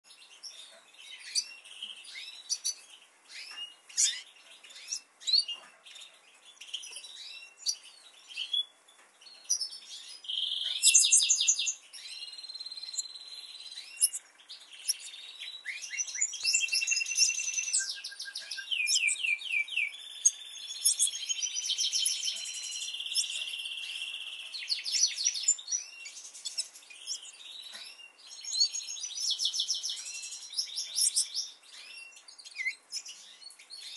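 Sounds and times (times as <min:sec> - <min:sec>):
canaries chirping: 0:00.0 - 0:33.9
canary song with trills: 0:00.0 - 0:33.9.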